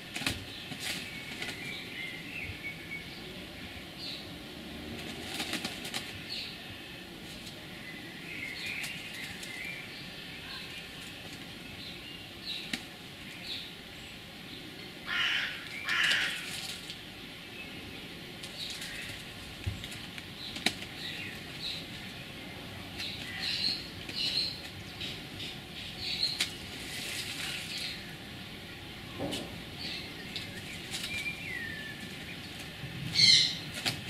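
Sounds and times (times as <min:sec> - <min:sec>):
birds chirping: 0:00.0 - 0:34.0
harsh bird calls: 0:00.0 - 0:34.0.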